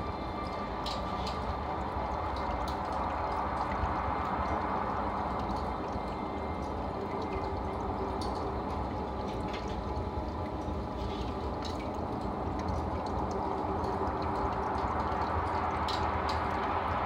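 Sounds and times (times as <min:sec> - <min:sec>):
faint drips: 0:00.0 - 0:17.0
low hum: 0:00.0 - 0:17.0
water trickling and bubbling: 0:00.0 - 0:17.0.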